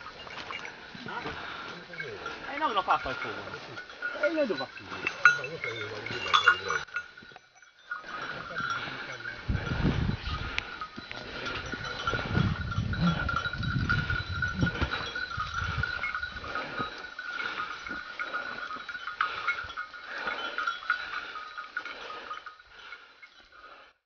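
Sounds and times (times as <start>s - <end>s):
brush rustling: 0.0s - 23.2s
dog bells clanking: 0.0s - 23.9s.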